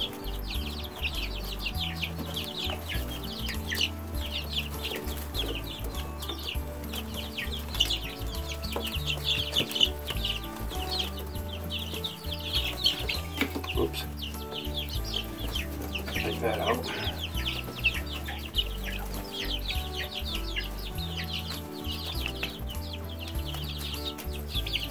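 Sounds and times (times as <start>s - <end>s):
background music with low notes: 0.0s - 24.9s
chicks peeping: 0.0s - 24.9s.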